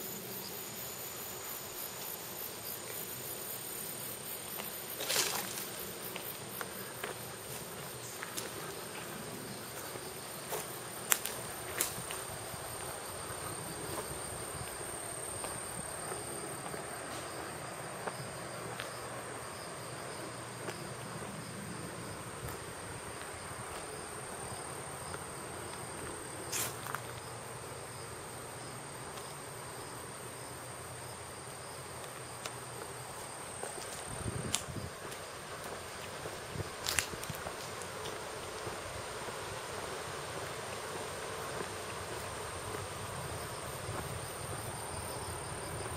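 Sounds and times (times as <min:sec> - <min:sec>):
insects calling high-pitched tone: 0:00.0 - 0:37.0.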